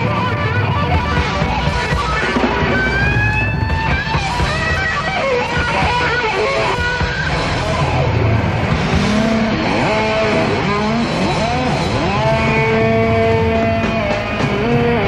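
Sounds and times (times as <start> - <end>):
bass guitar: 0.0 - 15.0
distorted electric guitar: 0.0 - 15.0
drums: 0.0 - 15.0.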